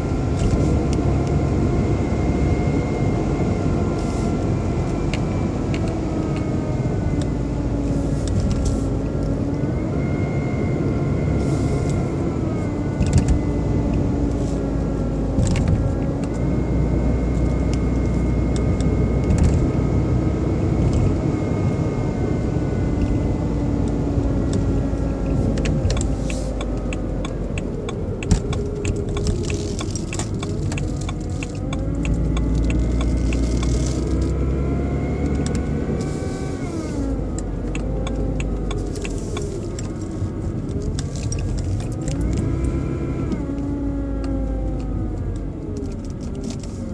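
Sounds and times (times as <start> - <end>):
car engine whirring: 0.0 - 46.9.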